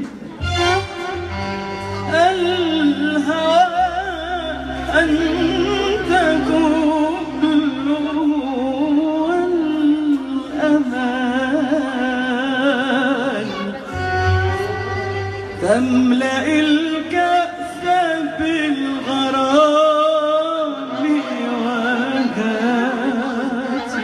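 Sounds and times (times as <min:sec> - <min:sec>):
low instrumental backing: 0:00.0 - 0:24.0.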